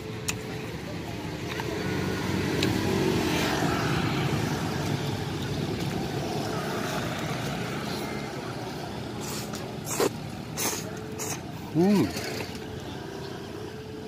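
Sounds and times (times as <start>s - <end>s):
motorbikes and scooters passing: 0.0s - 14.0s.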